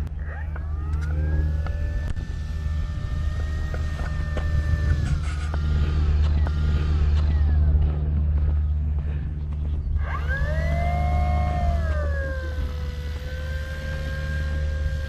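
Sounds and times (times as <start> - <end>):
electric motor and propeller whining: 0.0 - 15.0
steady low rumble: 0.0 - 15.0.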